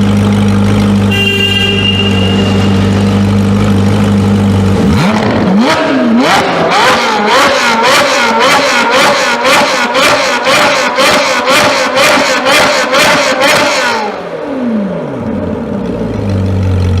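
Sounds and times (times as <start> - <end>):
sports car engine revving: 0.0 - 1.2, 2.2 - 17.0.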